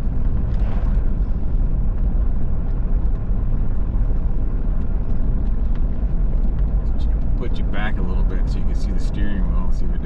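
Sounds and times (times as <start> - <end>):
truck engine rumble from cab: 0.0 - 10.0.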